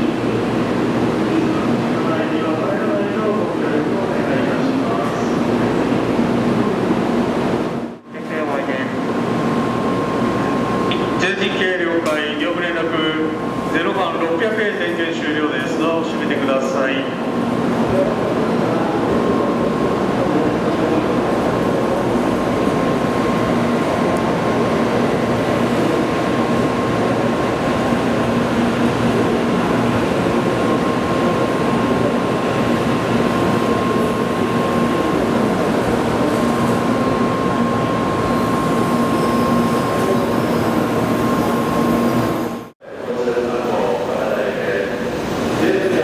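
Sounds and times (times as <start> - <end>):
train at platform humming: 0.0 - 46.0.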